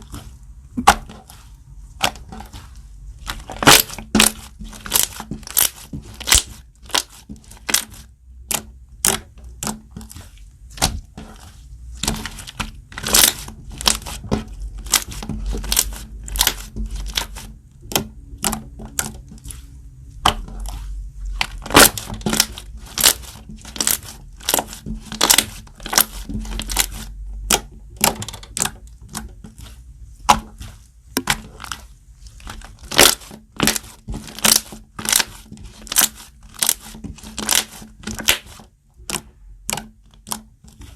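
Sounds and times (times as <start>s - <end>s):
slime squished by hand: 0.0s - 40.9s.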